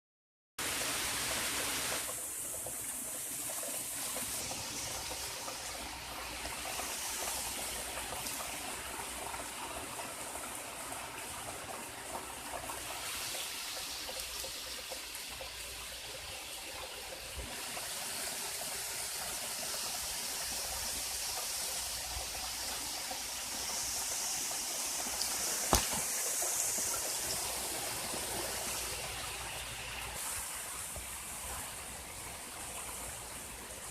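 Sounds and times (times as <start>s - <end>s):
rushing water from heavy rain: 0.6s - 33.9s.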